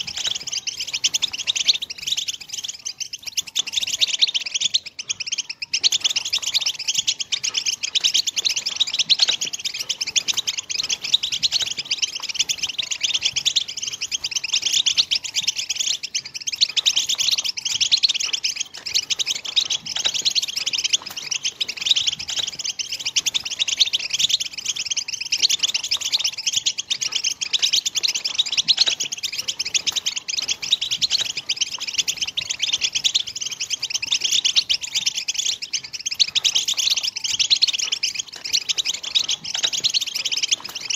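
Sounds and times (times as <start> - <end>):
finch twittering song: 0.0 - 40.9.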